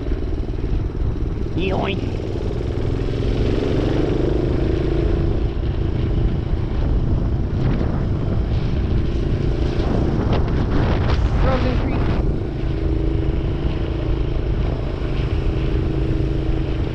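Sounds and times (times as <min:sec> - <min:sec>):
minibike engine running: 0:00.0 - 0:16.9.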